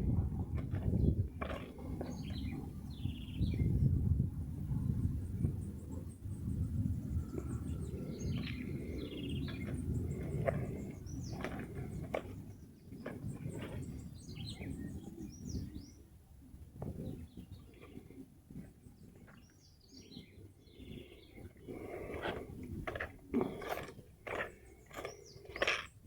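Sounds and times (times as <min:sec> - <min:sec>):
small birds chirping: 0:00.6 - 0:04.0, 0:04.8 - 0:26.0.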